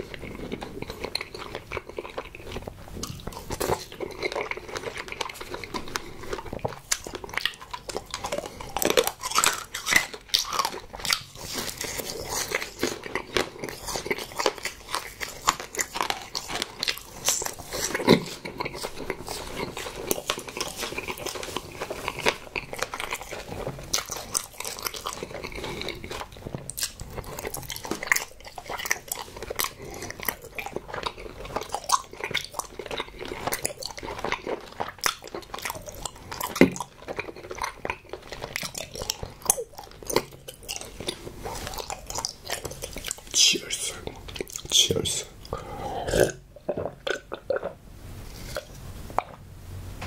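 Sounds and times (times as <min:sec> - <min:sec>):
person chewing food: 0:00.0 - 0:49.4.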